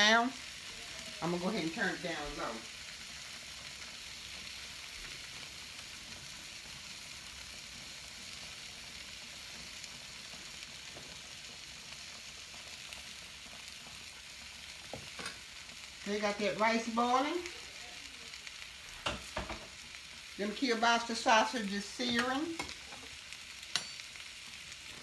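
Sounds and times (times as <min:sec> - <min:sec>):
sausage sizzling in a skillet: 0:00.0 - 0:25.0.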